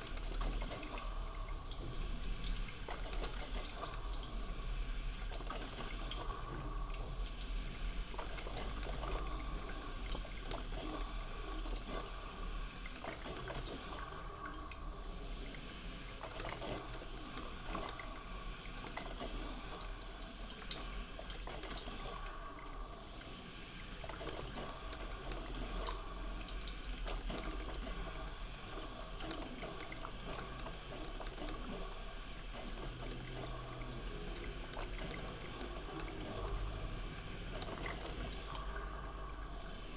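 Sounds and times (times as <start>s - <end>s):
coffee maker water gurgling: 0.0s - 39.9s.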